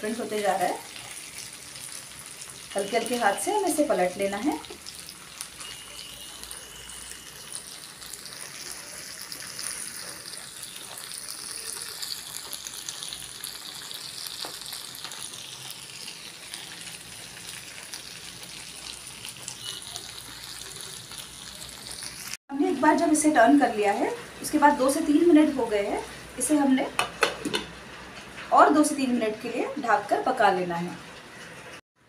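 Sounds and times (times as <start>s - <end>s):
meat sizzling in frying pan: 0.0s - 28.0s.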